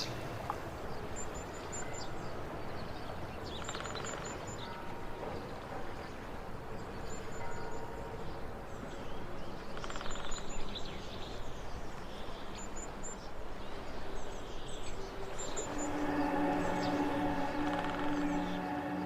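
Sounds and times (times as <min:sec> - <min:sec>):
outdoor background noise: 0:00.0 - 0:19.0
small birds chirping: 0:00.0 - 0:19.0
soft ambient music: 0:00.0 - 0:19.0.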